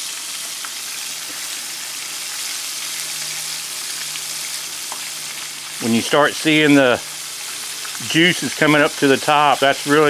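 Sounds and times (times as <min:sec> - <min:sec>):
meat frying in hot oil: 0:00.0 - 0:10.0.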